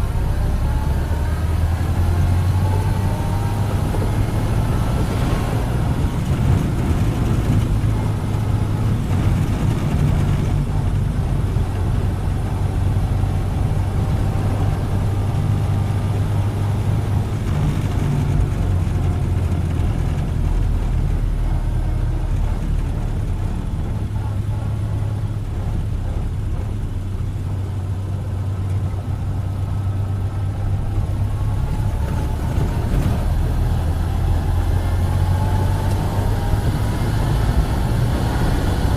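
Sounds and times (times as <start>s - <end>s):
car engine droning: 0.0s - 38.9s
faint engine whine: 0.0s - 38.9s.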